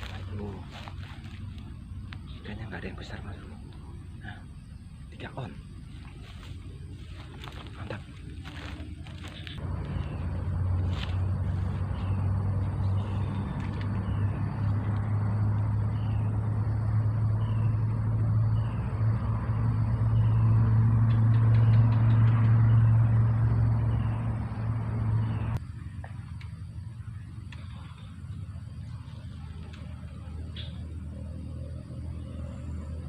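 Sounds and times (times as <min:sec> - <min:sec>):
motor engine running: 0:00.0 - 0:33.0.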